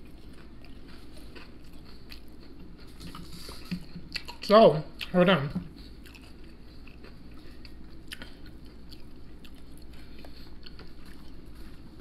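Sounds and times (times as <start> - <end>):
person chewing crispy food: 0.0 - 12.0.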